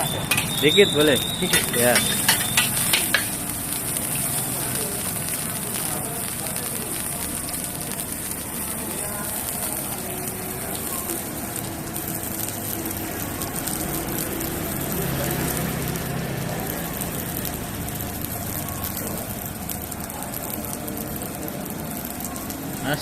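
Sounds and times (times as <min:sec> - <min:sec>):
rice sizzling in a wok: 0:00.0 - 0:23.0.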